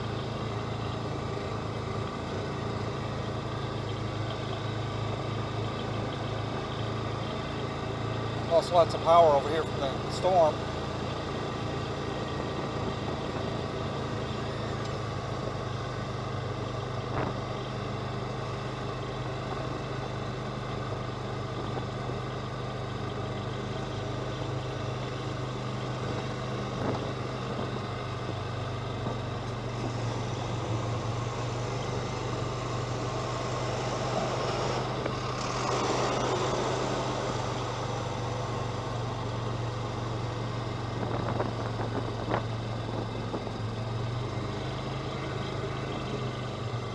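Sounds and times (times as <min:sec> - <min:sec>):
utility vehicle engine droning: 0:00.0 - 0:46.9.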